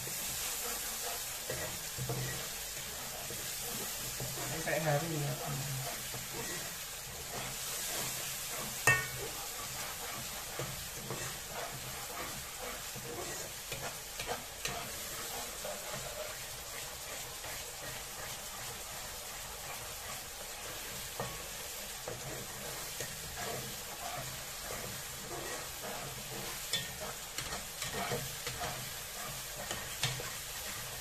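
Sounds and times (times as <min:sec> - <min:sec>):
metal spatula scraping a pan: 0:00.0 - 0:31.0
spice paste sizzling in oil: 0:00.0 - 0:31.0.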